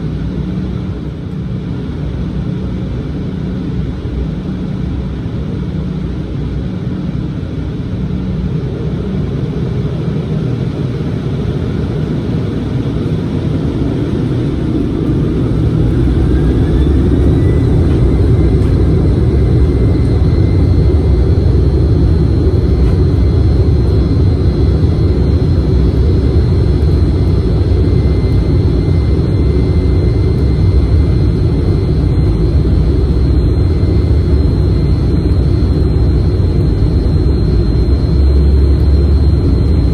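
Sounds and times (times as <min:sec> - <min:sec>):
jet engine deep rumble: 0:00.0 - 0:39.9
jet engine whine: 0:00.0 - 0:39.9.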